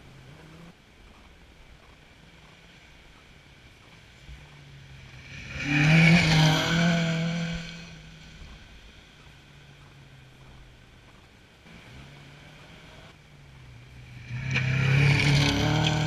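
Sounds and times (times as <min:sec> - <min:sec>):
rally car engine passing: 0:00.0 - 0:16.0.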